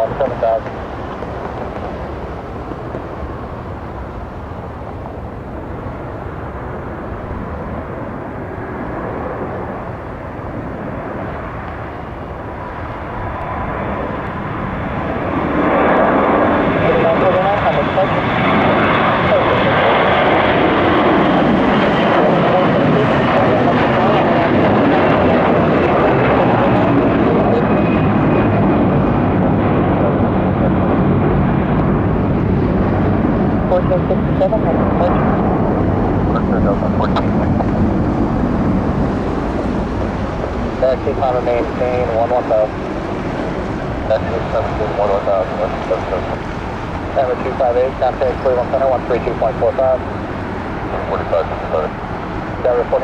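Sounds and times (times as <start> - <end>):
distant jet engines rumbling: 0.0 - 53.0
faint high whine: 0.0 - 53.0.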